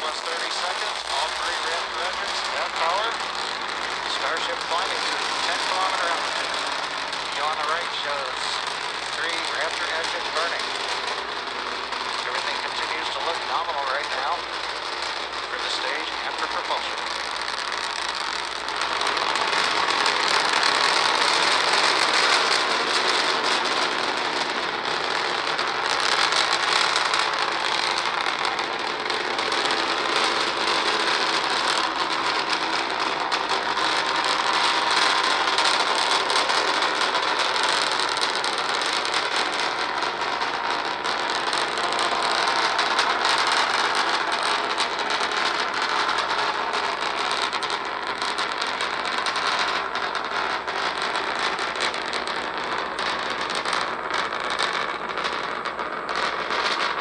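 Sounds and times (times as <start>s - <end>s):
rocket engines roaring: 0.0s - 57.0s.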